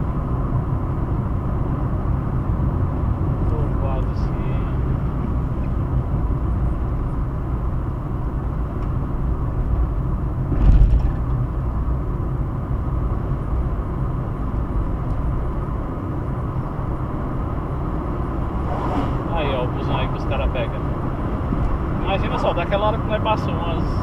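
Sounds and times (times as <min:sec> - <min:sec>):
car driving on highway: 0:00.0 - 0:24.0.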